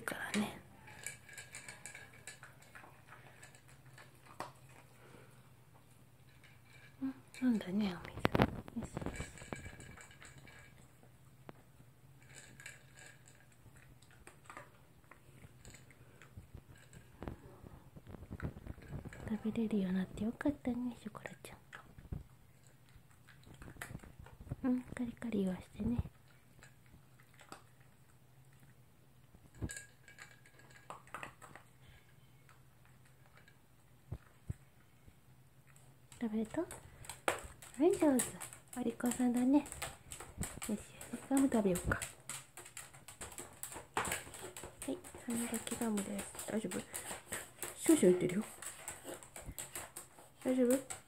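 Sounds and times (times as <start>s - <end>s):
dog chewing dry kibble: 0.0s - 51.0s.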